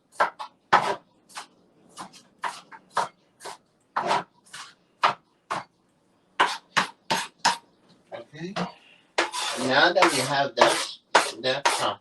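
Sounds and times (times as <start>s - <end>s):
knife chopping onion: 0.0s - 5.7s, 6.4s - 7.6s, 9.2s - 12.0s.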